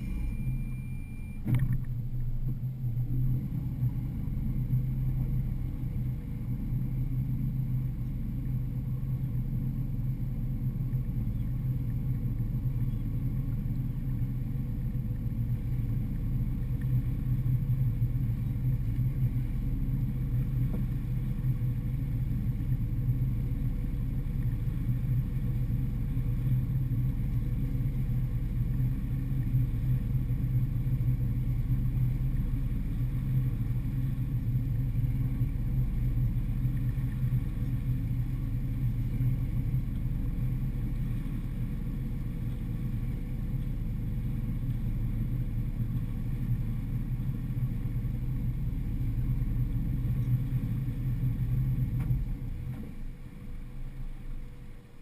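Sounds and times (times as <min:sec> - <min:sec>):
outboard motors running: 0:00.0 - 0:55.0.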